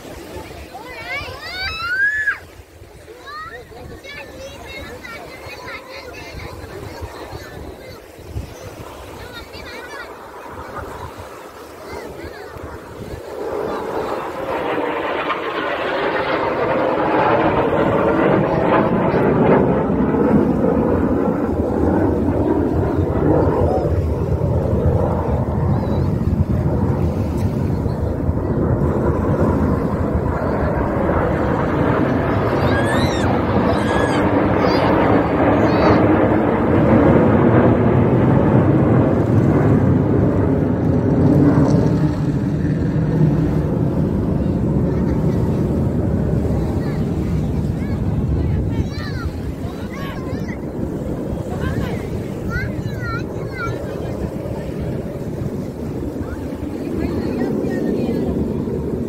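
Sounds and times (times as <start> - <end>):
jet engines roaring past: 0.0 - 59.0.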